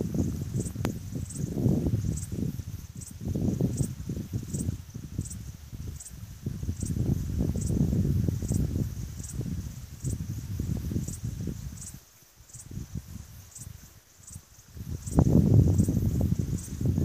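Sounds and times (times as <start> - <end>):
insect chirping in high pulses: 0.0 - 17.0
wind rumbling on microphone: 0.0 - 17.0.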